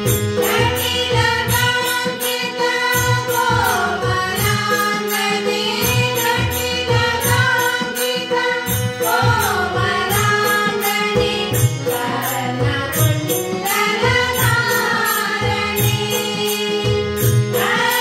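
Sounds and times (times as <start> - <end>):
harmonium chords: 0.0 - 18.0
women singing in unison: 0.3 - 18.0.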